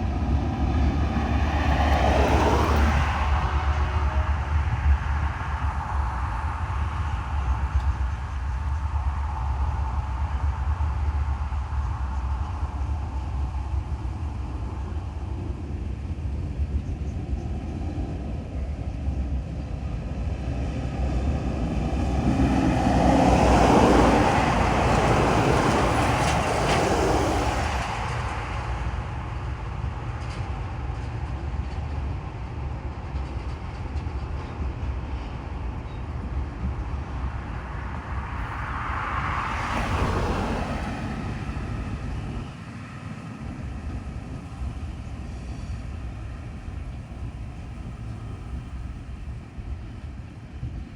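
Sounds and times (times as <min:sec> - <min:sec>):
train rumbling on rails: 0:00.0 - 0:50.9.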